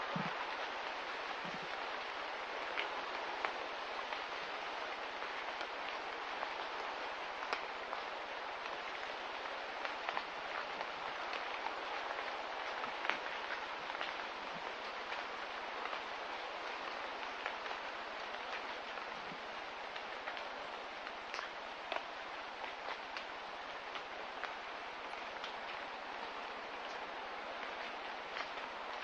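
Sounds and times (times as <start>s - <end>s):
light rain hissing: 0.0s - 29.0s
sharp drips and ticks: 0.0s - 29.0s.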